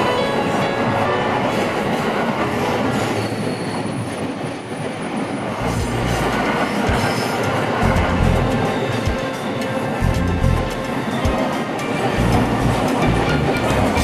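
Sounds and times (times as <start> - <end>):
train running noise: 0.0 - 14.0.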